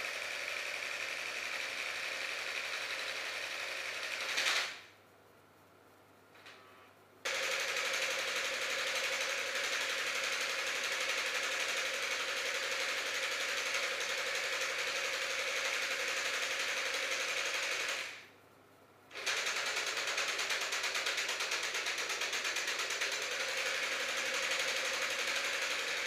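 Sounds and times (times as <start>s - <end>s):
electric motor mechanical rattle: 0.0s - 4.9s, 7.3s - 18.3s, 19.1s - 26.0s.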